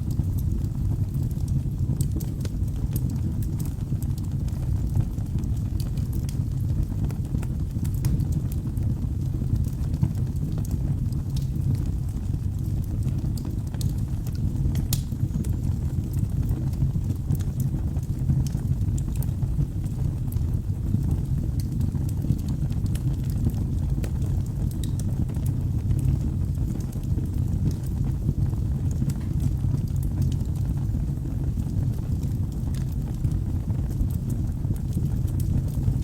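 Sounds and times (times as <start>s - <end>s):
burning logs crackling and popping: 0.0s - 36.0s
low rumble of flames: 0.0s - 36.0s.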